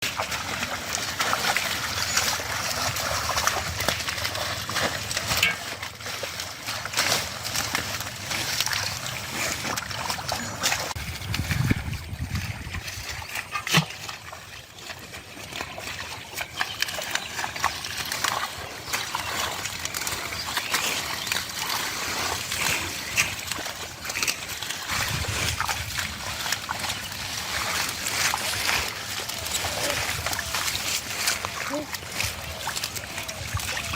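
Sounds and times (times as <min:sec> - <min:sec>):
water dripping: 0:00.0 - 0:33.9
water splashing and sloshing: 0:00.0 - 0:33.9.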